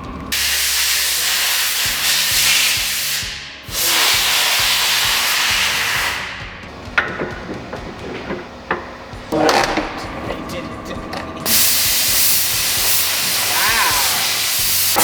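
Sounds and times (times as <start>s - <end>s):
pressurised spray hissing: 0.3s - 15.0s.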